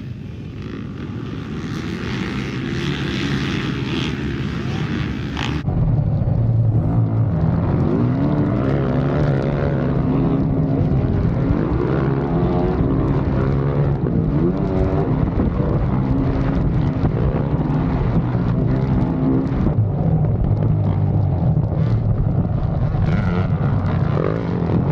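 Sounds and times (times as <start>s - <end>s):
dirt bike engine revving: 0.1s - 5.6s, 7.5s - 19.7s, 21.7s - 24.9s.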